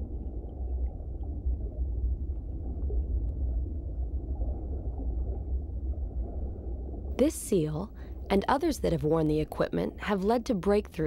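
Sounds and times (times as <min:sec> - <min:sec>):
low underwater rumble: 0:00.0 - 0:09.6.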